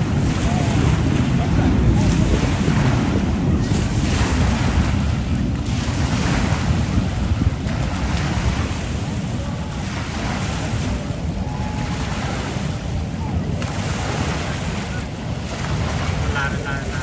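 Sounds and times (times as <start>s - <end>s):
waves on shore: 0.0s - 17.0s
wind buffeting microphone: 0.0s - 17.0s.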